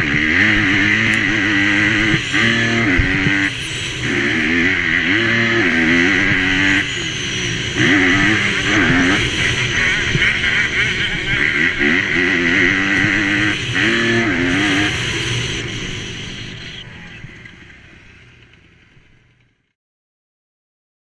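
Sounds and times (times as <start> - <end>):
motocross bike engine running hard: 0.0 - 19.7.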